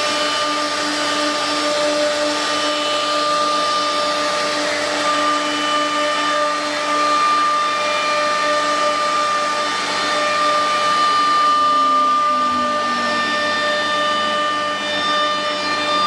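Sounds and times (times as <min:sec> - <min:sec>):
cnc router whining: 0:00.0 - 0:16.0.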